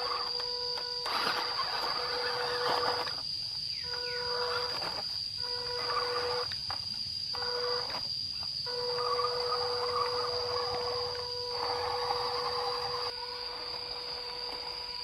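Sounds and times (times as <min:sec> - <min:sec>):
electric motor whining: 0:00.0 - 0:03.2, 0:03.9 - 0:06.5, 0:07.4 - 0:08.0, 0:08.6 - 0:15.0.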